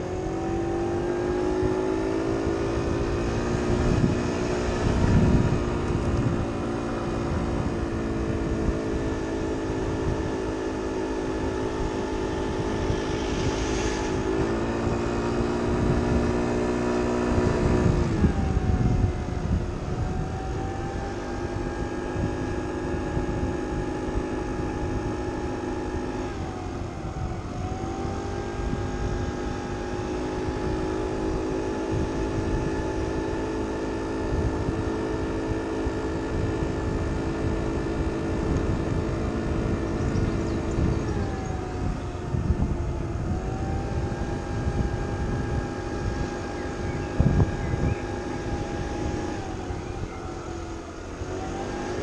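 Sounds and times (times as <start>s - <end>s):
scooter engine running: 0.0s - 52.0s.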